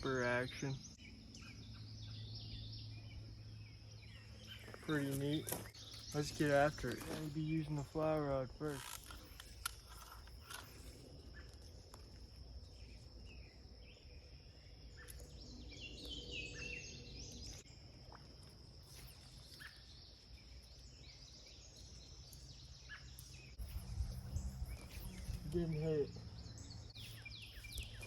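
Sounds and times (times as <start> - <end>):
bird chirping: 0.0 - 18.2, 18.8 - 28.0
high insect trill: 0.0 - 28.0.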